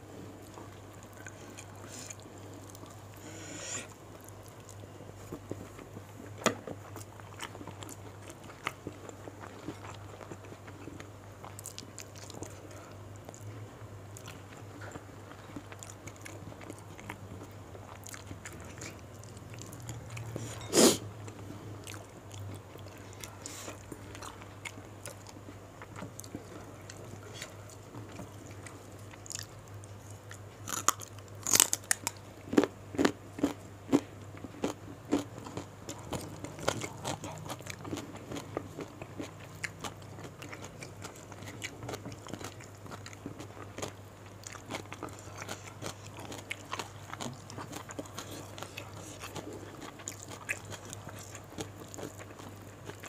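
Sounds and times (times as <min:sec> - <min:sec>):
chewing with crunches: 0:00.0 - 0:53.0.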